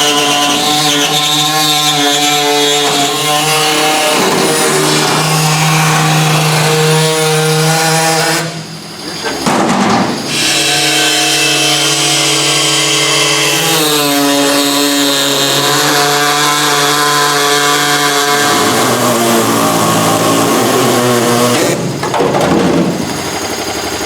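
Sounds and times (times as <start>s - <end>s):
power tool cutting metal: 0.0s - 24.0s.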